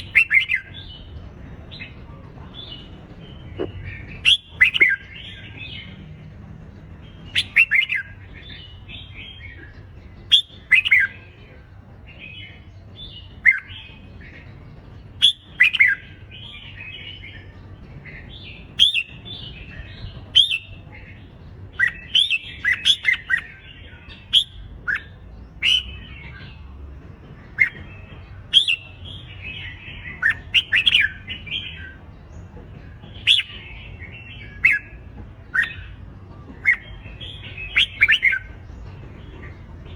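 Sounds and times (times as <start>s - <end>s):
bulbuls chirping song: 0.0s - 39.9s.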